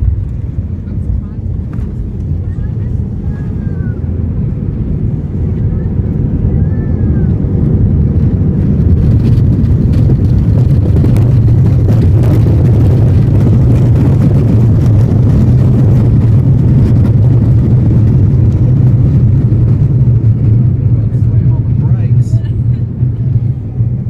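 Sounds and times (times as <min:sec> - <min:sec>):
airplane engine rumble in cabin: 0:00.0 - 0:24.0.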